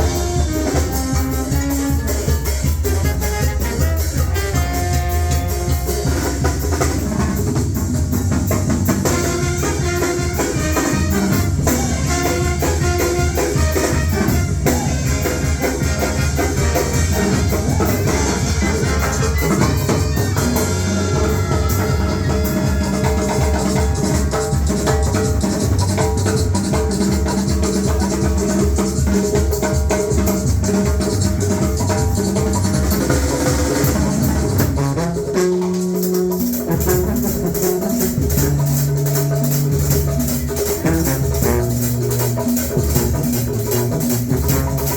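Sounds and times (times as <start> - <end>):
music with drum kit: 0.0 - 44.9.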